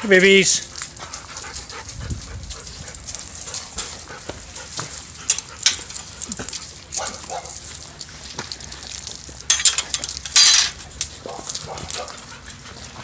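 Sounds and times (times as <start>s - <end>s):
footsteps on gravel: 0.6s - 13.0s.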